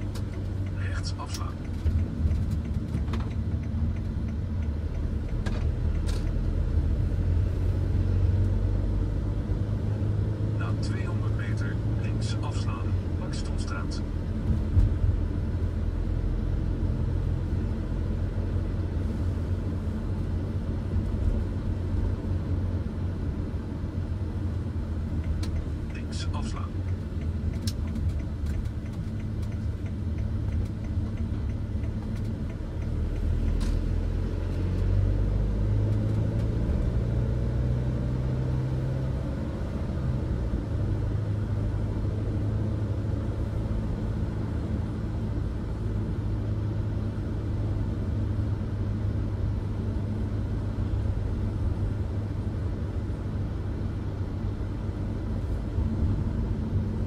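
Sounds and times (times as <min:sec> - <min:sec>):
van engine and tyre hum: 0:00.0 - 0:57.0.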